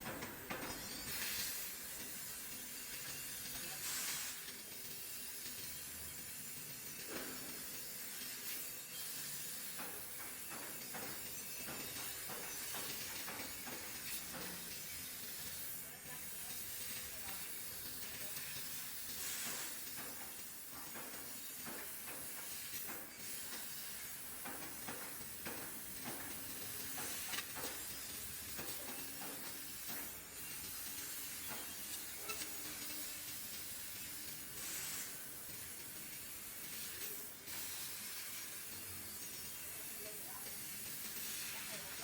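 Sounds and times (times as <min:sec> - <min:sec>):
cutting gas jet hissing: 0:00.5 - 0:42.0.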